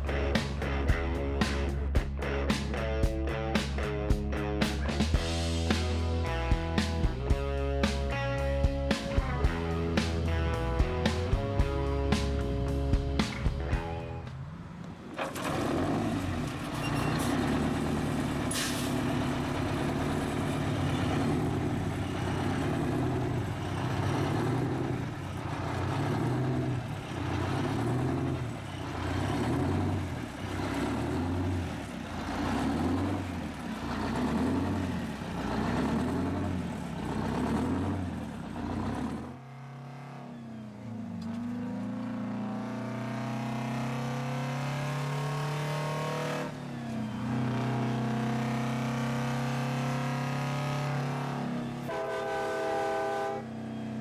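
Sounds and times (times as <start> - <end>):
diesel truck engine revving: 0.0 - 54.0
engine drone from cab: 8.5 - 54.0.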